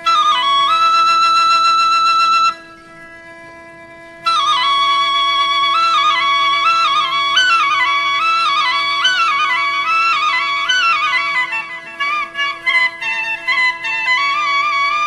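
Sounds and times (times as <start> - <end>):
flute-like melody: 0.0 - 15.0
steady drone: 0.0 - 15.0.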